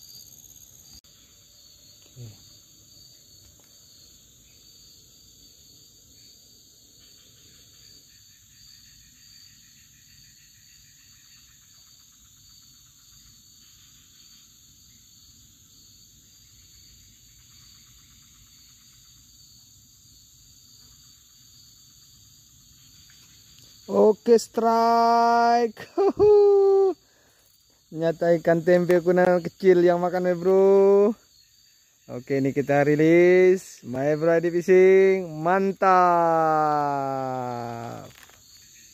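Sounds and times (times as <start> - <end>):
insects chirring: 0.0 - 38.9
soft pulsing insect calls: 0.0 - 38.9.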